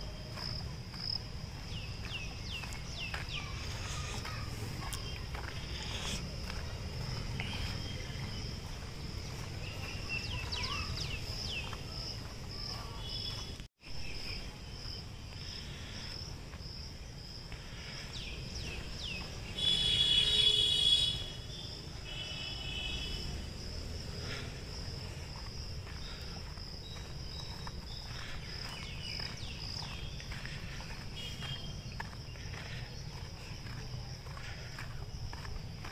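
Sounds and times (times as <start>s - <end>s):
insects chirring: 0.0s - 35.9s.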